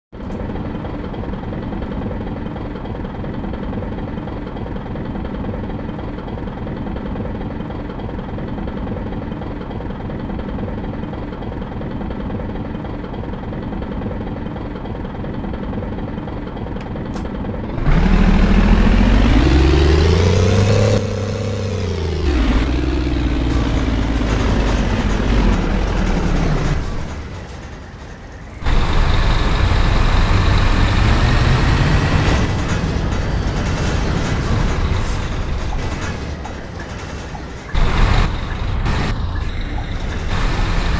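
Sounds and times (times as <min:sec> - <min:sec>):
bus engine idling and revving: 0:00.2 - 0:40.9.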